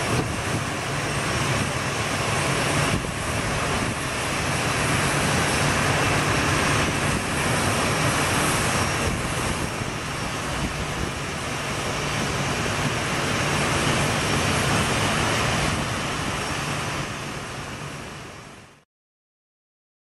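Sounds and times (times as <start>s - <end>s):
jet engine rushing hum: 0.0s - 18.8s.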